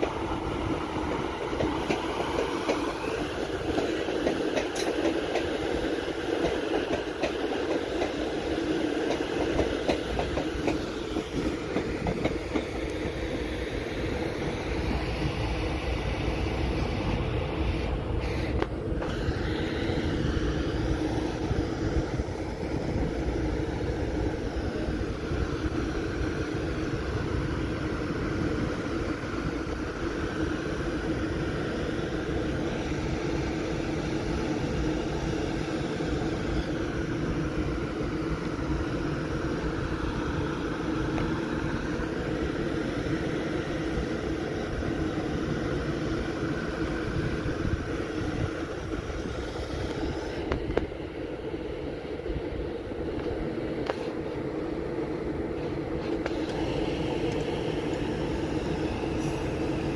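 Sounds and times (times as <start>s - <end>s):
electric train hum: 0.0s - 59.9s.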